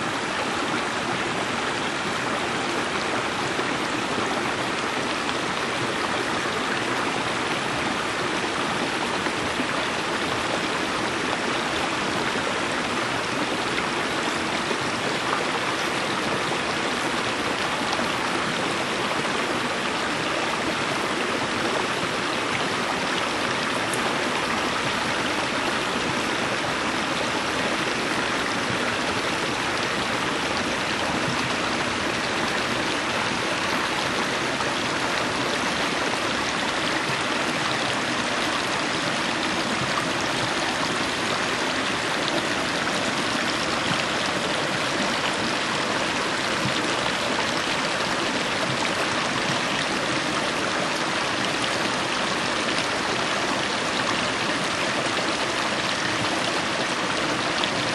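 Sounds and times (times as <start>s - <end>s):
creek flowing over rocks: 0.0s - 57.9s.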